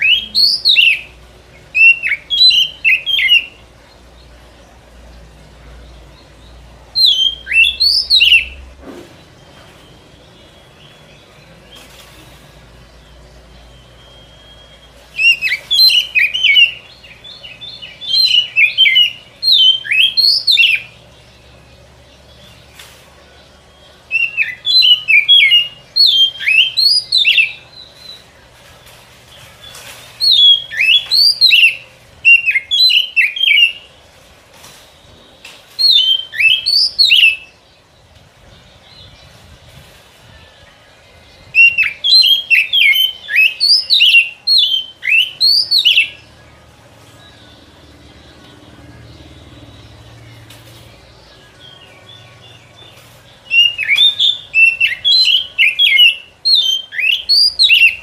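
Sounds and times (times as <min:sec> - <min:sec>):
bird whistled song: 0:00.0 - 0:03.7, 0:06.0 - 0:34.0, 0:34.6 - 0:37.7, 0:38.4 - 0:58.0.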